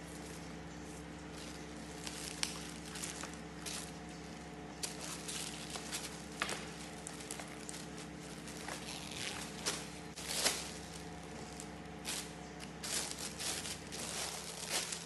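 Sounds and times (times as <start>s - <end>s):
low background hum: 0.0s - 15.0s
plastic bag rustling and crinkling: 0.0s - 15.0s.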